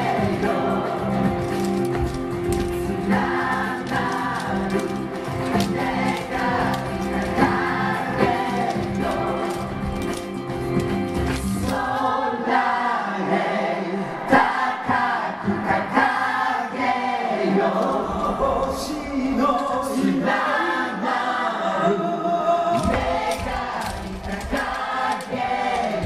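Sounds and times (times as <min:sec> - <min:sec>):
music with singing voices: 0:00.0 - 0:26.0.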